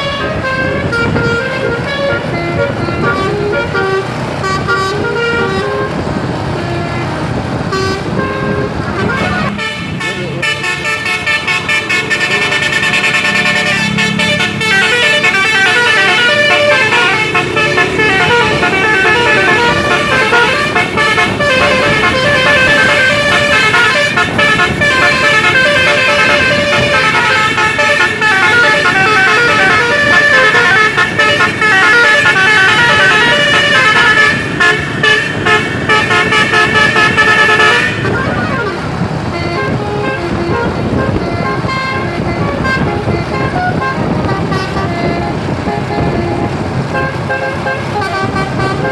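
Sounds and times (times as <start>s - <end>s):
bus air horns playing melody: 0.0s - 48.9s.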